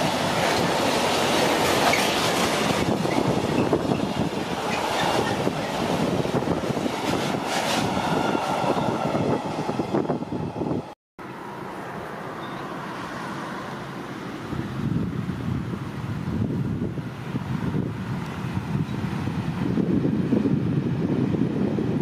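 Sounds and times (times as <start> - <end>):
wind on microphone: 0.0 - 11.0, 14.5 - 22.0
freight train rumbling past: 0.0 - 22.0.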